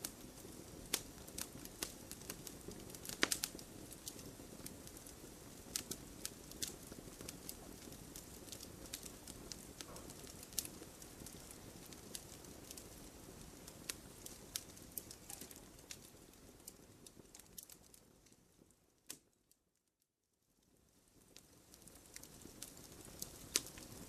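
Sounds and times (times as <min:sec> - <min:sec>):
campfire crackling and popping: 0:00.0 - 0:19.5, 0:20.6 - 0:24.0.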